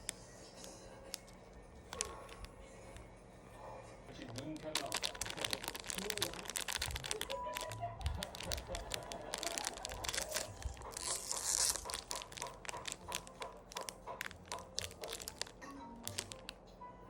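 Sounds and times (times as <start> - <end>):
crisp crackling and crinkling: 0.0 - 3.1, 4.1 - 16.6.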